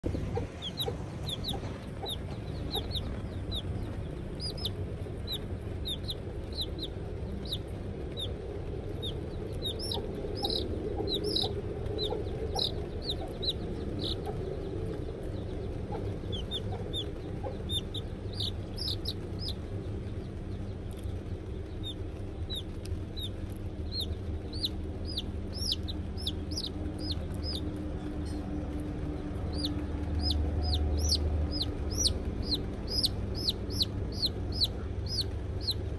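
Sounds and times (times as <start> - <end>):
chick peeping: 0.0 - 27.8, 29.4 - 35.9
low background noise: 0.0 - 35.9.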